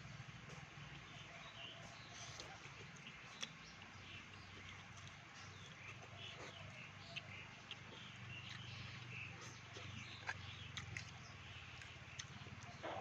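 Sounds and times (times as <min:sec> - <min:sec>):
birds chirping: 0:00.0 - 0:13.0
chewing and mouth smacking: 0:00.5 - 0:13.0.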